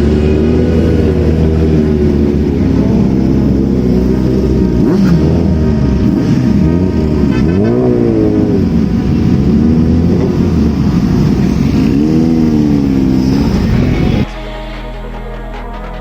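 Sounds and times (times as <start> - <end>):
motorcycle engine accelerating: 0.0 - 14.4
steady rushing noise: 0.0 - 16.0.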